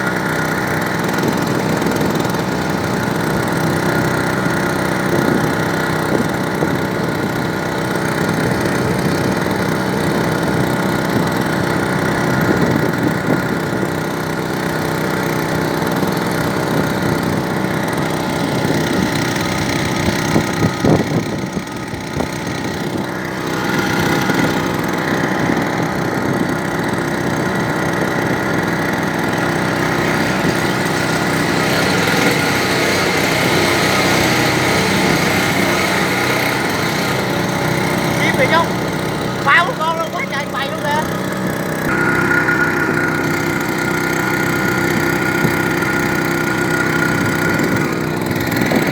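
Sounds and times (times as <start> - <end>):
boat motor running: 0.0 - 48.9.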